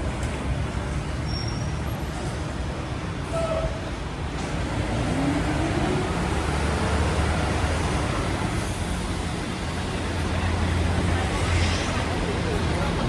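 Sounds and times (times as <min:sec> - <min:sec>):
road hiss: 0:00.0 - 0:13.0
traffic engine rumble: 0:00.0 - 0:13.0.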